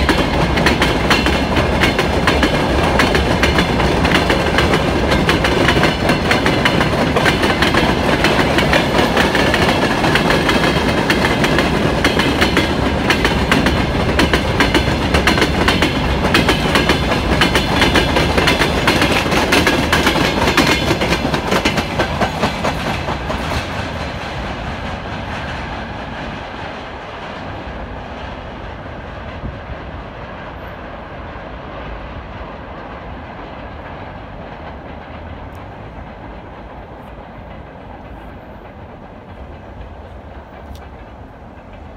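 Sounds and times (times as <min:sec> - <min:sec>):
freight train rolling past: 0:00.0 - 0:41.9
train wheels clicking over rail joints: 0:00.0 - 0:41.9.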